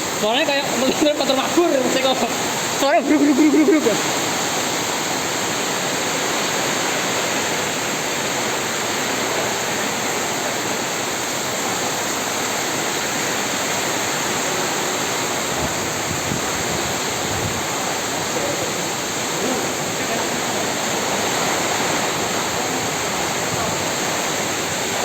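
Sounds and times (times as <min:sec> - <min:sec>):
heavy rain pouring: 0:00.0 - 0:25.0
strong storm wind: 0:00.0 - 0:25.0.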